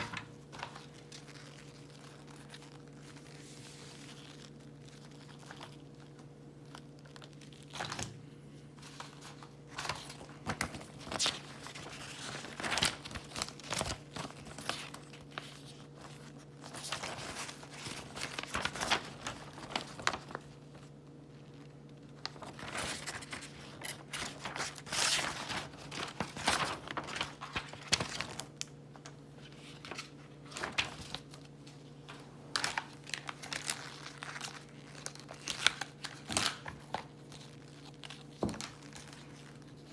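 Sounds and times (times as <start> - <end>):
low electrical hum: 0.0 - 39.9
packaging crinkling and tearing: 0.0 - 39.9.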